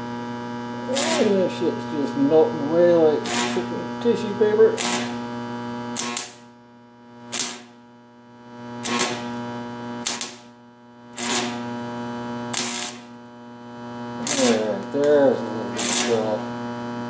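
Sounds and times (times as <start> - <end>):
steady electrical hum: 0.0 - 17.0
welding arc crackling: 0.1 - 17.0.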